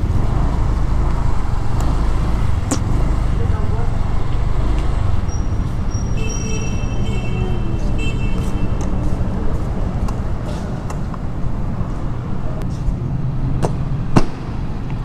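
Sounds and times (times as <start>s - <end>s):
motorcycle engine rumbling: 0.0s - 14.7s.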